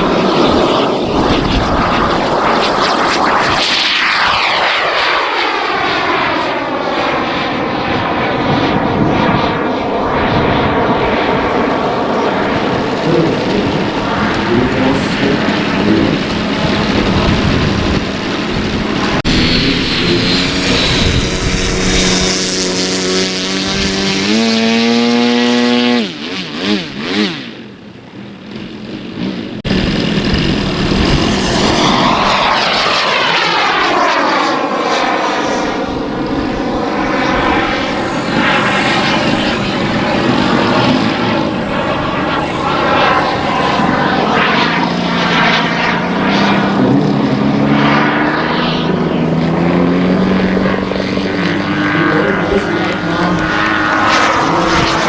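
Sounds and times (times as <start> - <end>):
model airplane engines droning: 0.0 - 55.0.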